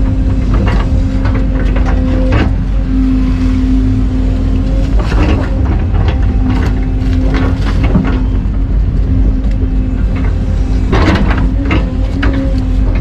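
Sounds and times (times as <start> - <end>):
machine clanks and scrapes: 0.0 - 9.2, 9.9 - 13.0
excavator diesel engine running: 0.0 - 13.0.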